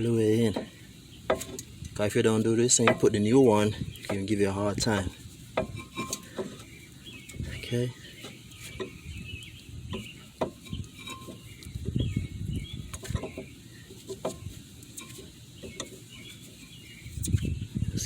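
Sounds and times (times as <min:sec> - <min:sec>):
tool scraping and creaking: 0:00.0 - 0:09.2, 0:09.9 - 0:17.5.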